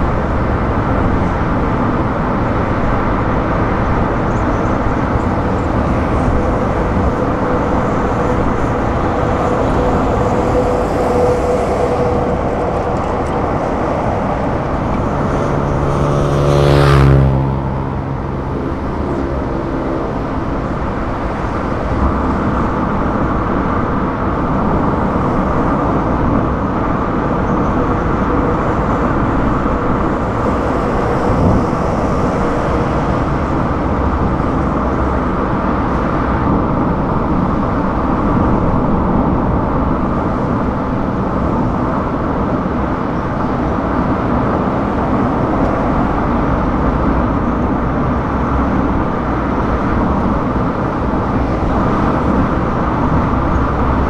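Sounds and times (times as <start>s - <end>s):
car engine hum: 0.0s - 54.0s
tyre roar on asphalt: 0.0s - 54.0s.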